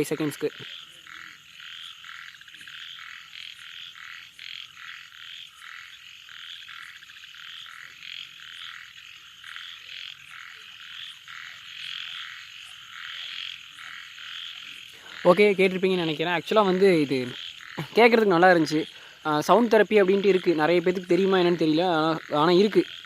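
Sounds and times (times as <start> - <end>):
chorus of frogs calling: 0.0 - 23.0.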